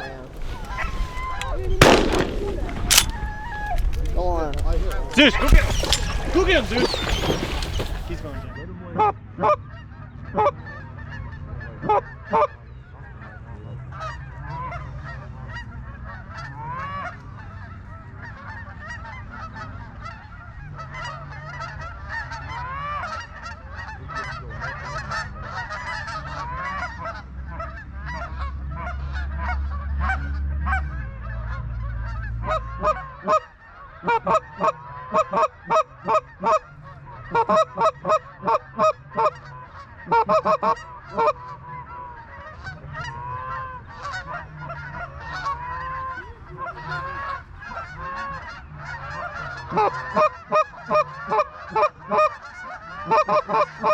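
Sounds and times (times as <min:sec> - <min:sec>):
geese honking: 0:00.0 - 0:08.6, 0:14.0 - 0:53.9.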